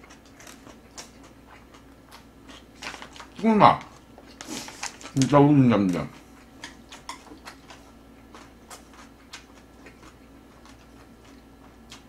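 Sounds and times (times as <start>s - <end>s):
person chewing: 0.0s - 5.2s, 6.1s - 12.0s.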